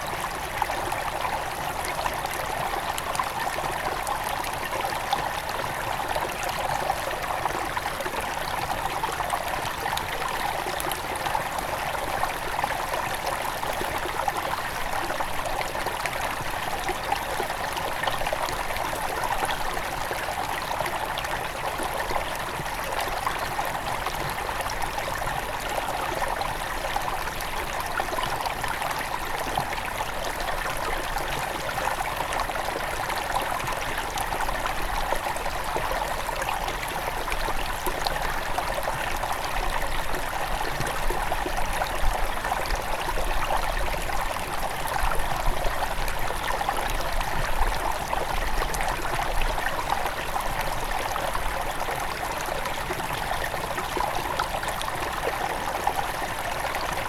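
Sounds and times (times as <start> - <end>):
stream flowing over stones: 0.0 - 57.0.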